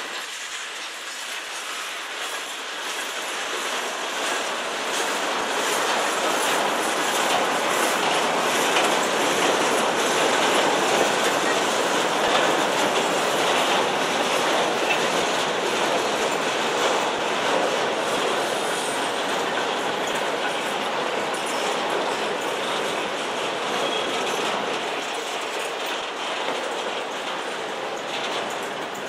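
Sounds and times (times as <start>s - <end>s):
train wheels clattering over rails: 0.0s - 29.0s.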